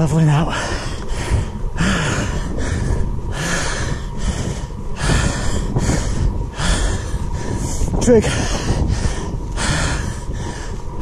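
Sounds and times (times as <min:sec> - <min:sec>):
man breathing hard: 0:00.5 - 0:11.0.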